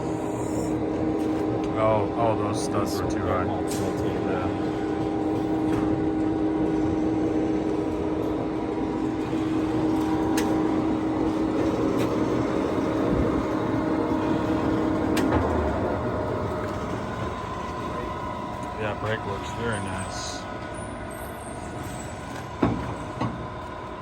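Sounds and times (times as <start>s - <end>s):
lathe gear whine and hum: 0.0s - 24.0s.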